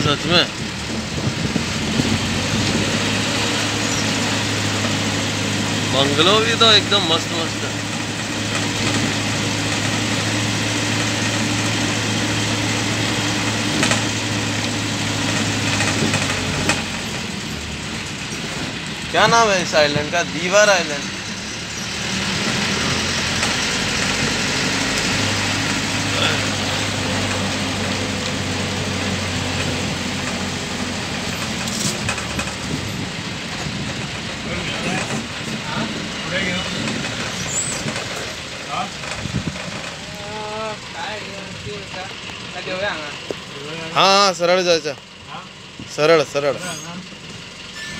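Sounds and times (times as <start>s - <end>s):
vehicle engine and road noise: 0.0s - 47.9s.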